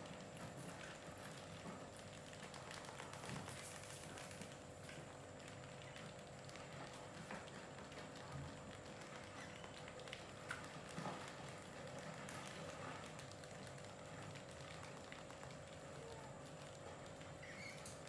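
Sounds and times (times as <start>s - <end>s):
faint steady hum: 0.0s - 18.0s
rats scurrying on concrete: 0.0s - 18.0s.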